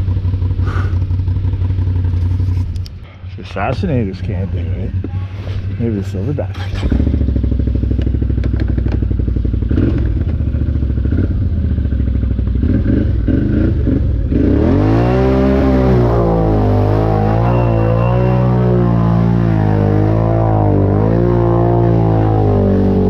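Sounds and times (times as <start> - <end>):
atv engine revving: 0.0 - 2.9, 6.4 - 23.0.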